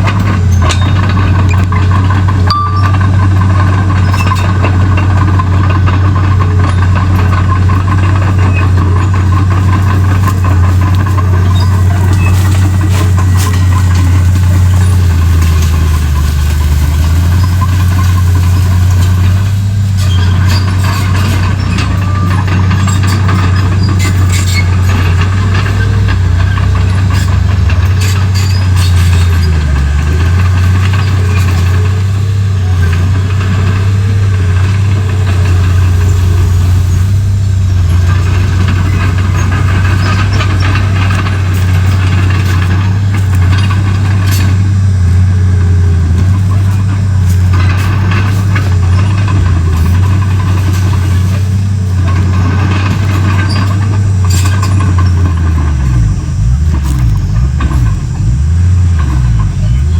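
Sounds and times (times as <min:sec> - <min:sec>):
bulldozer diesel engine droning: 0:00.0 - 0:59.9.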